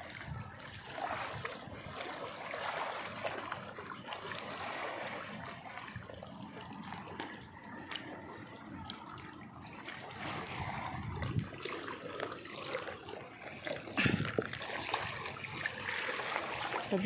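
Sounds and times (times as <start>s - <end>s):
sea water lapping and splashing: 0.0s - 17.0s.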